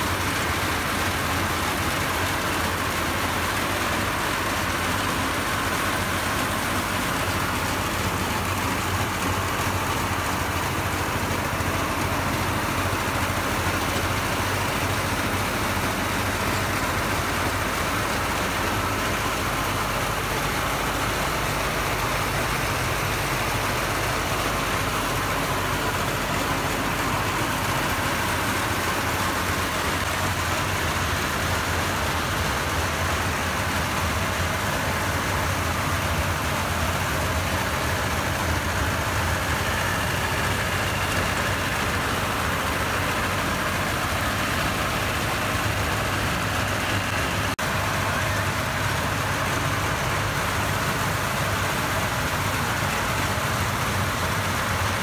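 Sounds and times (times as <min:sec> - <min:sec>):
threshing machine droning: 0:00.0 - 0:55.0.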